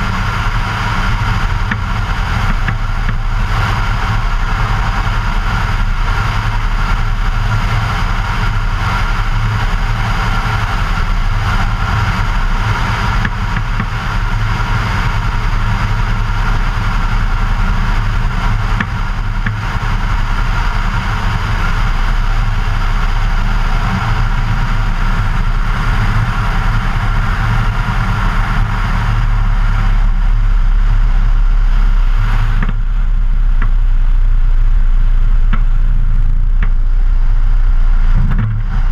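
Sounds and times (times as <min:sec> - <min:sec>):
light aircraft engine and propeller: 0:00.0 - 0:38.9.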